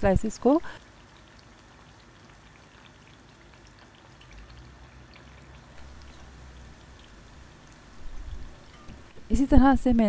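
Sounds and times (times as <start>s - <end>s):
bread deep-frying sizzle: 0.0s - 10.0s.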